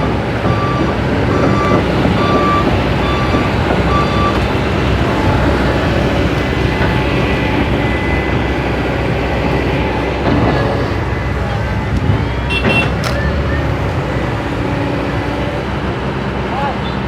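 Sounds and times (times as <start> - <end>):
backup alarm beeping: 0.0 - 15.6
construction machine engine running: 0.0 - 17.0.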